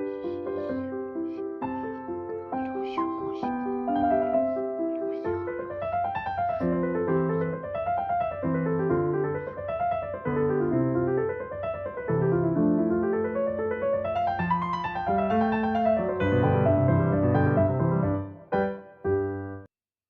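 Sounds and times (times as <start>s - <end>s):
piano arpeggios: 0.0s - 19.7s.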